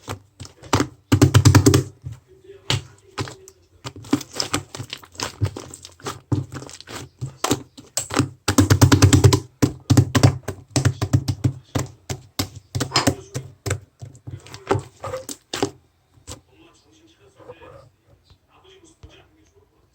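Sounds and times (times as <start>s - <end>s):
hard objects tapping: 0.0s - 16.4s.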